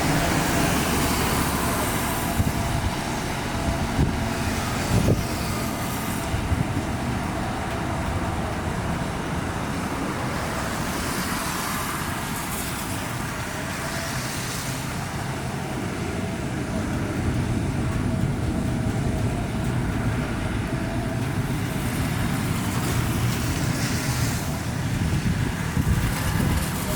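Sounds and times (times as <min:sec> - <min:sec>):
low engine rumble: 0:00.0 - 0:26.9.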